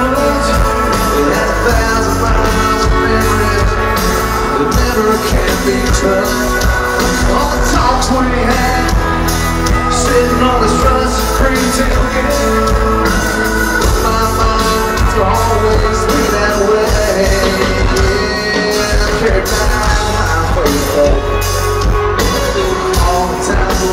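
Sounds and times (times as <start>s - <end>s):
live country rock band: 0.0s - 23.9s
man singing: 0.0s - 23.9s.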